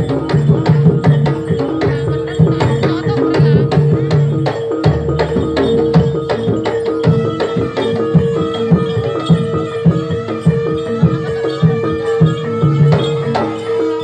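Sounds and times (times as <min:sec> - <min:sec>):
hand drum strokes: 0:00.0 - 0:14.0
pitched percussion: 0:00.0 - 0:14.0.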